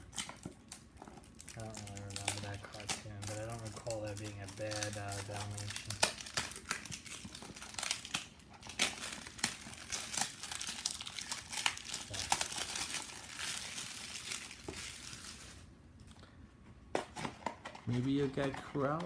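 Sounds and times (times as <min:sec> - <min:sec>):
packaging crinkling: 0:00.0 - 0:16.2, 0:17.1 - 0:19.0.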